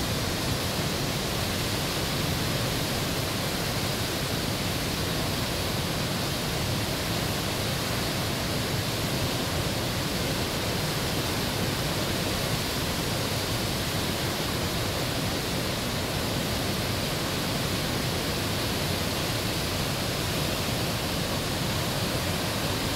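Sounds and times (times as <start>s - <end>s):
whitewater rushing over rocks: 0.0s - 22.9s.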